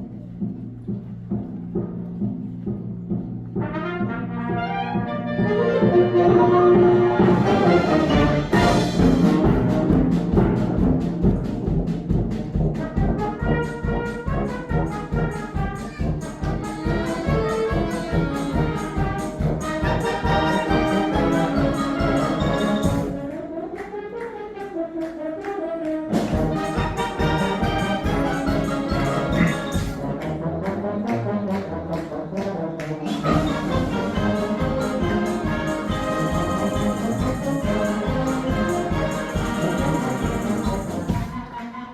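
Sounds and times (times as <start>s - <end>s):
wind band playing: 0.0s - 41.9s.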